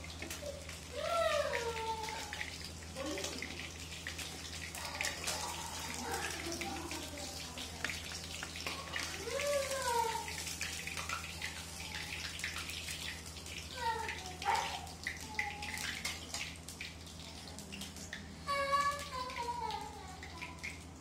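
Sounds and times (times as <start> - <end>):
oil sizzling in a frying pan: 0.0 - 21.0.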